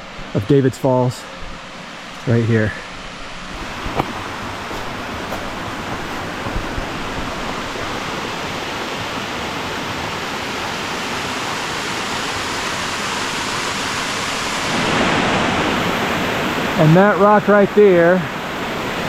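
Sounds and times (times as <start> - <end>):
waterfall rushing over rock: 3.5 - 19.0.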